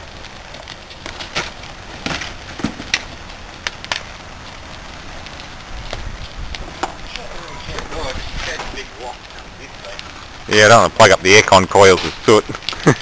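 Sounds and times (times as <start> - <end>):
fire crackling and popping: 0.0 - 13.0
hiss of flame: 0.0 - 13.0.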